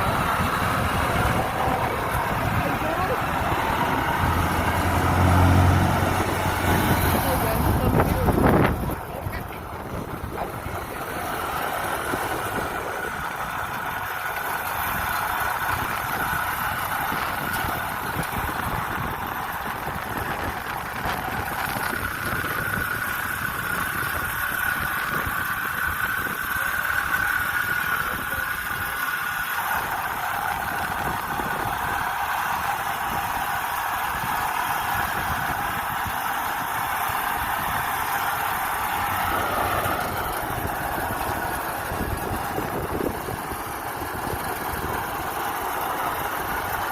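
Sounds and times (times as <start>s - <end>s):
combine harvester engine rumble: 0.0s - 46.9s
steady whine: 0.0s - 46.9s.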